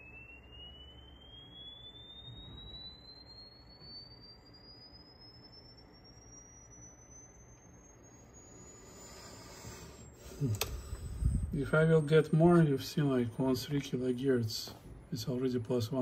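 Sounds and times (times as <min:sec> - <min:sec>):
low hum: 0:00.0 - 0:16.0
sine sweep test tone: 0:00.0 - 0:16.0.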